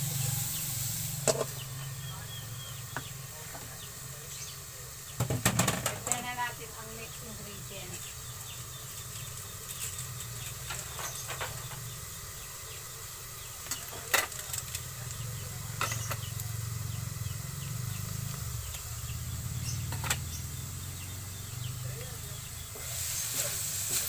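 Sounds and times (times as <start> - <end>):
meat sizzling in a wok: 0.0 - 24.0.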